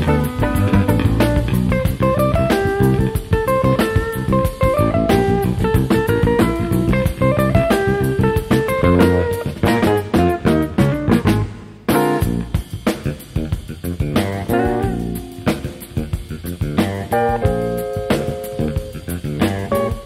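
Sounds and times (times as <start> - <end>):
drum kit hits: 0.0 - 20.0
electric bass line: 0.0 - 20.0
electric guitar melody: 0.0 - 20.0.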